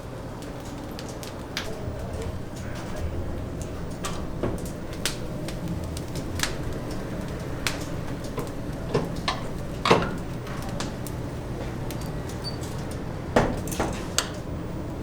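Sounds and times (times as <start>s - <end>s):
steady low hum: 0.0s - 15.0s
sharp clicks and knocks: 0.4s - 14.4s.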